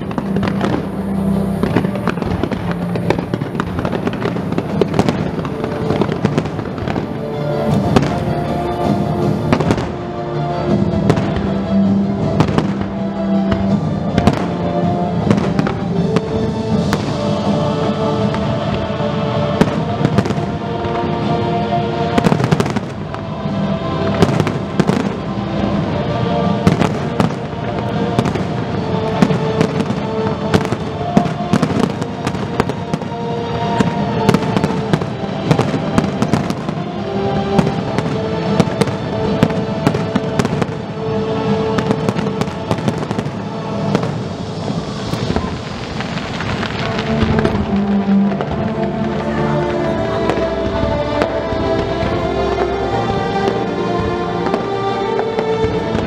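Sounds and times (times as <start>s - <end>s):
music playing: 0.0s - 56.0s.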